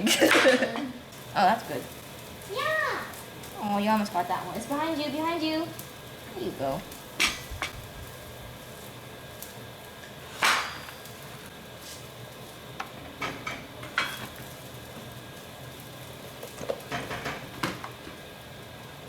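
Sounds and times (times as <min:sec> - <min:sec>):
onions sizzling in frying pan: 0:00.0 - 0:19.0.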